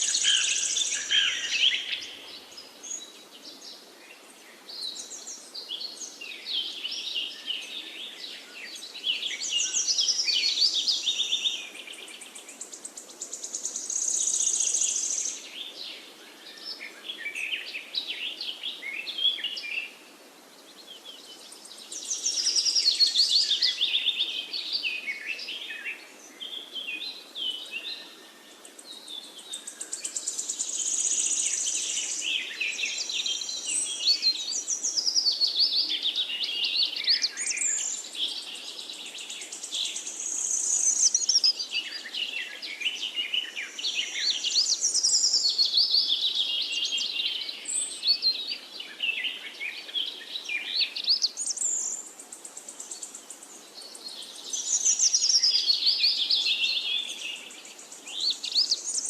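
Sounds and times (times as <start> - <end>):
outdoor background hiss: 0.0 - 59.0
songbirds chirping and trilling: 0.0 - 59.0.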